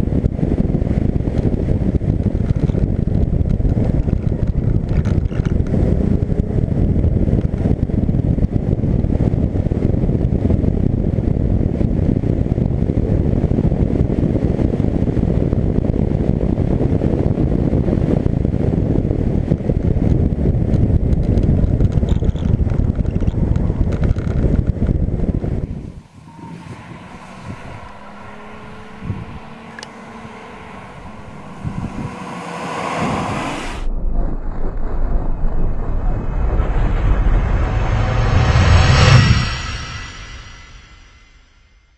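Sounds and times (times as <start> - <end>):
car engine running hard: 0.0 - 33.9
wind rushing on microphone: 0.0 - 41.5.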